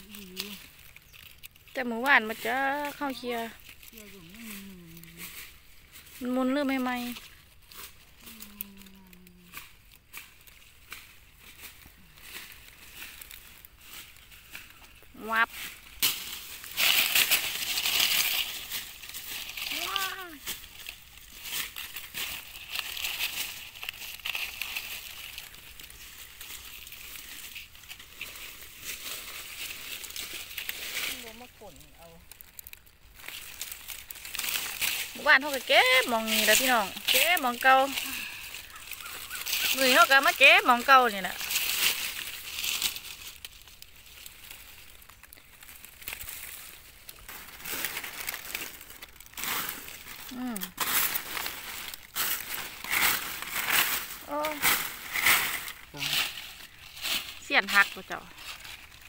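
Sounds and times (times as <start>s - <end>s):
dry leaves crackling: 0.0s - 59.0s
leaf litter rustling: 0.0s - 59.0s.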